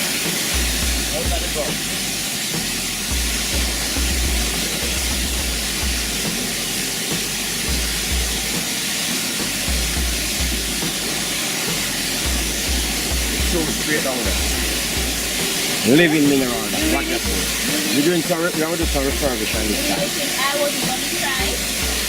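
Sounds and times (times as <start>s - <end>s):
bass of background music: 0.0s - 8.8s, 9.4s - 22.0s
waterfall rushing: 0.0s - 22.0s.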